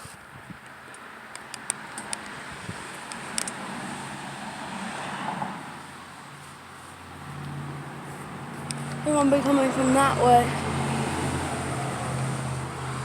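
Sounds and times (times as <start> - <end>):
car passing on road: 0.0 - 13.0.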